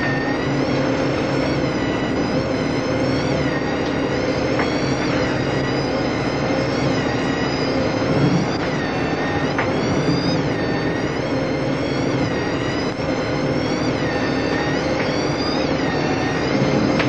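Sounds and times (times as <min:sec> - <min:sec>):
boat diesel engine drone: 0:00.0 - 0:17.0.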